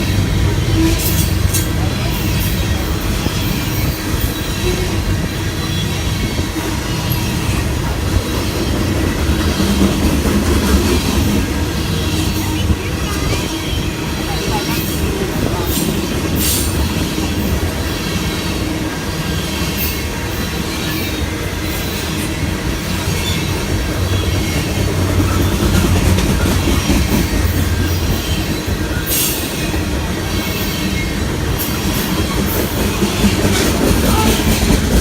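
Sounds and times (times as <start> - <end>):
train rumbling past: 0.0 - 35.0
wheels squealing on rails: 0.0 - 35.0.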